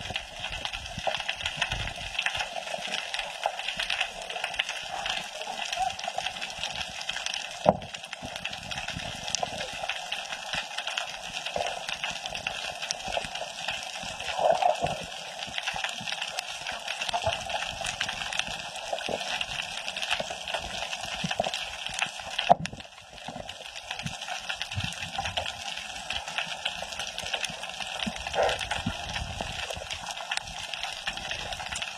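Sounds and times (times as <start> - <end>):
underwater water noise: 0.0 - 31.9
fine crackling clicks: 0.1 - 31.9.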